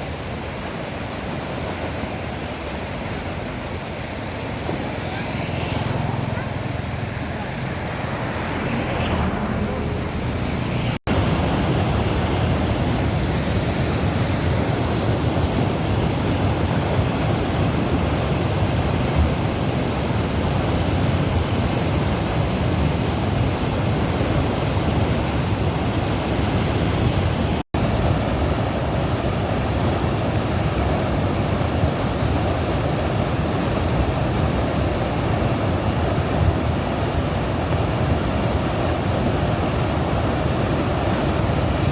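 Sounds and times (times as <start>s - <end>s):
flooded river roaring: 0.0s - 41.9s.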